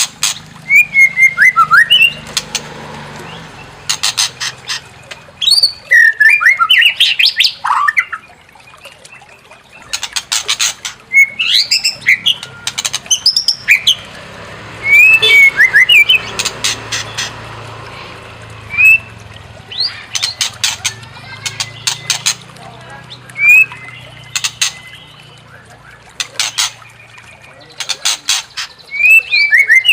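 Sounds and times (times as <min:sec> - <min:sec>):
bird singing: 0:00.2 - 0:29.9.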